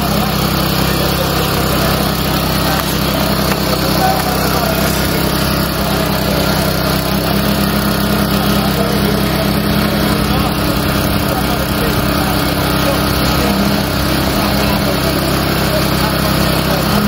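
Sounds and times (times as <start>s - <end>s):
crowd of voices: 0.0s - 17.0s
small engine running: 0.0s - 17.0s.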